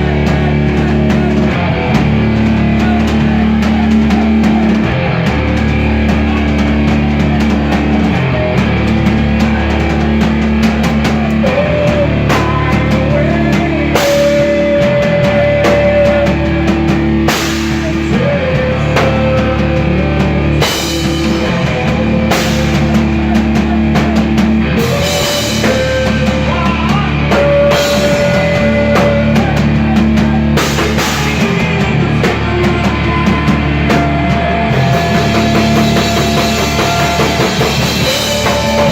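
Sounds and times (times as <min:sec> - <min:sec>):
bending lead guitar notes: 0:00.0 - 0:38.9
live rock band playing: 0:00.0 - 0:38.9.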